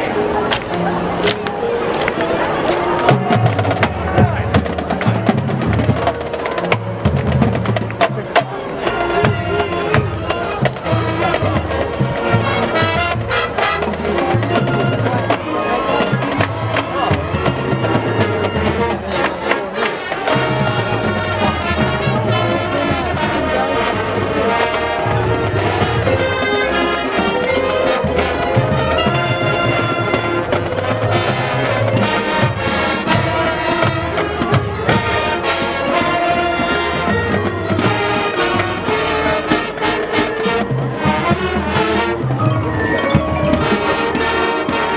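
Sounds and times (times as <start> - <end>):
drumline: 0.0 - 44.9
mallet percussion: 0.1 - 44.9
brass playing sustained chords: 8.8 - 44.9.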